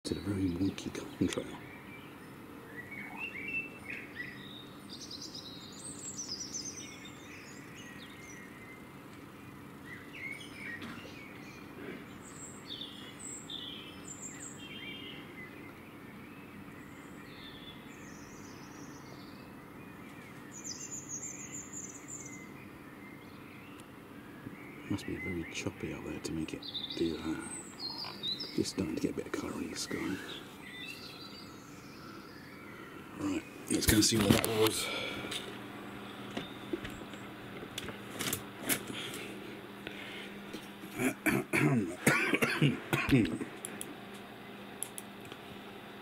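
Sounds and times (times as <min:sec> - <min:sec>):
songbirds chirping: 0:00.0 - 0:46.0
faint low hum: 0:00.1 - 0:46.0.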